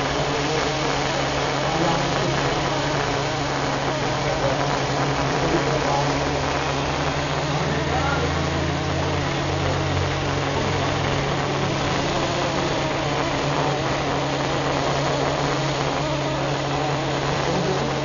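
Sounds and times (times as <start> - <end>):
cutting torch gas jet hissing: 0.0 - 18.0.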